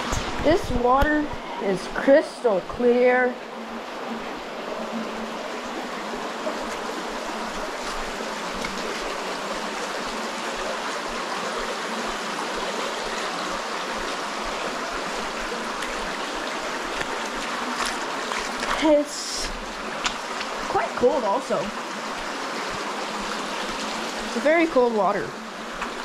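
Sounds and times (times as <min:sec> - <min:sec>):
stream rushing over stones: 0:00.0 - 0:26.0.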